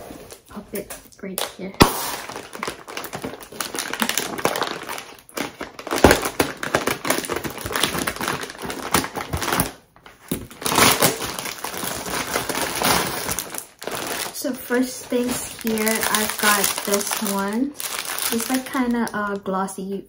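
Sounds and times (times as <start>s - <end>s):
bubble wrap packaging crackling: 1.6s - 19.5s.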